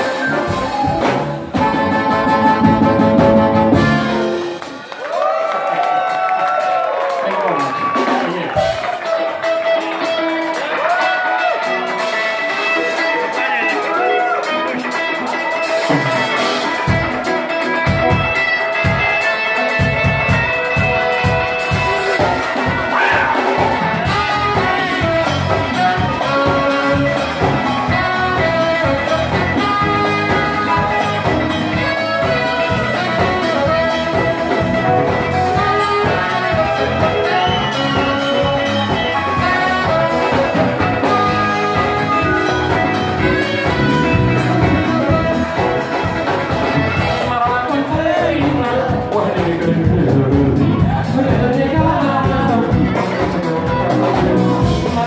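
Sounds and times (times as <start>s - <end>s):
saxophone: 0.0s - 4.8s, 7.5s - 49.0s
electric bass: 0.0s - 4.9s, 7.5s - 55.0s
drum kit: 0.0s - 55.0s
guitar: 0.0s - 55.0s.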